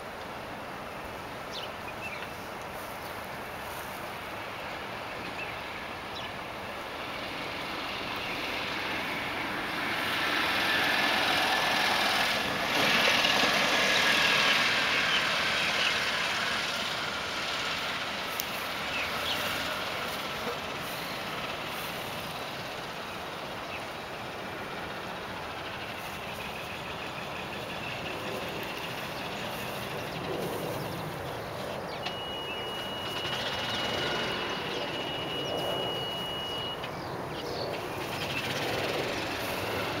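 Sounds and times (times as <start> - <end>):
vehicle driving past: 5.5 - 40.0.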